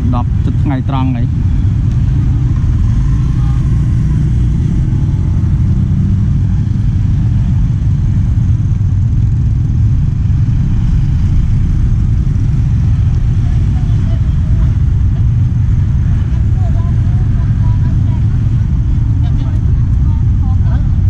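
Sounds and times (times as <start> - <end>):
vehicle rumble from on board: 0.0 - 21.0.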